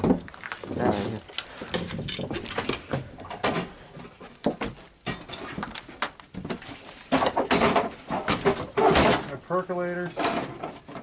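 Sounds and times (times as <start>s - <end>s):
junk being rummaged through: 0.0s - 11.0s.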